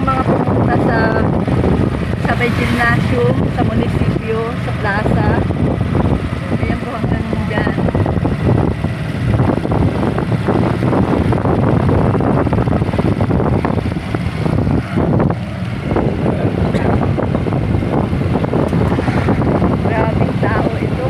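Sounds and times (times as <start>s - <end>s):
vehicle engine and road noise: 0.0s - 21.0s
wind buffeting microphone: 0.0s - 21.0s.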